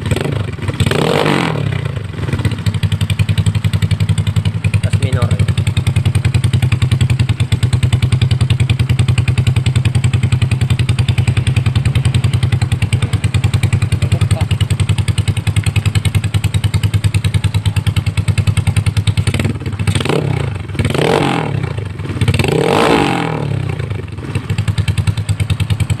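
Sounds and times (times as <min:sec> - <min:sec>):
scooter engine idling and revving: 0:00.0 - 0:26.0.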